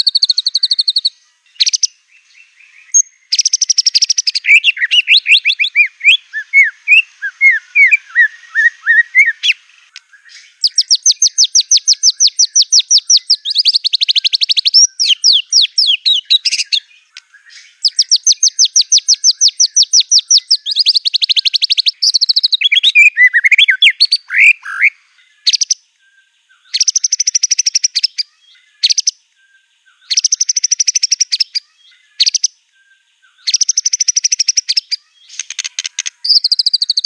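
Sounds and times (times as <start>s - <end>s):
bird singing fast trills: 0.0s - 37.0s
swooping whistled bird notes: 0.0s - 37.0s.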